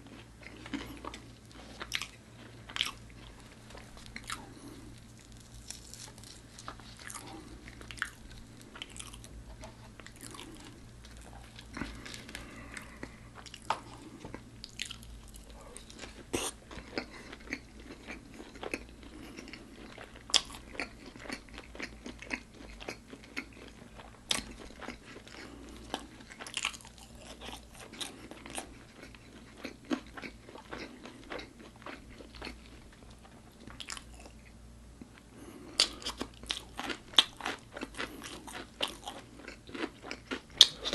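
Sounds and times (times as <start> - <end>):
crunching crispy food: 0.0 - 34.5, 35.1 - 40.9.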